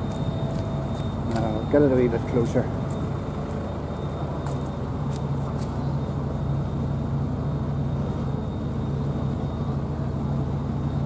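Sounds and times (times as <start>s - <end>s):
faint high whine: 0.0s - 11.0s
machine humming: 0.0s - 11.0s.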